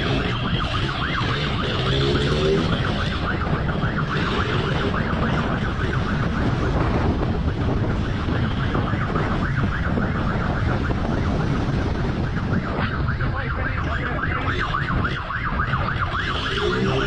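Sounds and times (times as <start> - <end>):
motorcycle engine rumble: 0.0 - 17.0
motorcycle siren yelping: 0.0 - 17.0
wind noise on microphone: 0.0 - 17.0.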